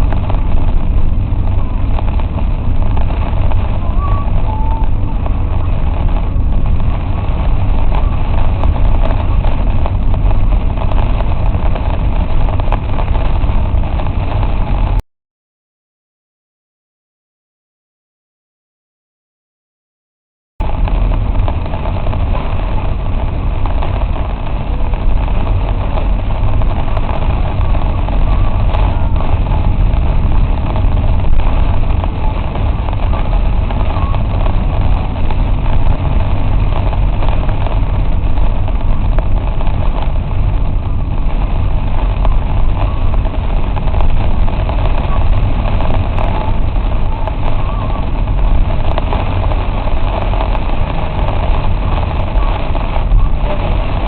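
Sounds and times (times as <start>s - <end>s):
car rumbling inside cabin: 0.0s - 15.0s, 20.6s - 54.0s
heavy rain on car: 0.0s - 15.0s, 20.6s - 54.0s.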